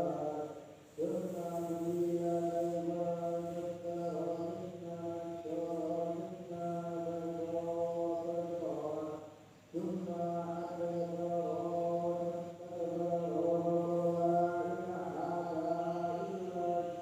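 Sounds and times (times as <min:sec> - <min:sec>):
person chanting held notes: 0:00.0 - 0:17.0.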